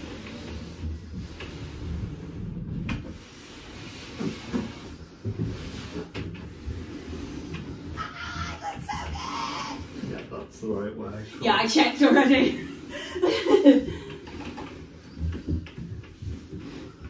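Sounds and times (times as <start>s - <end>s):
wardrobe scraping across floor: 0.0s - 17.0s.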